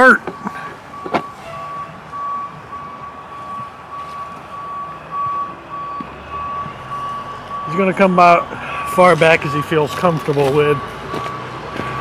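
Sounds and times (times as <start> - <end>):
truck back-up alarm beeping: 0.0 - 12.0
truck engine rumble: 0.0 - 12.0.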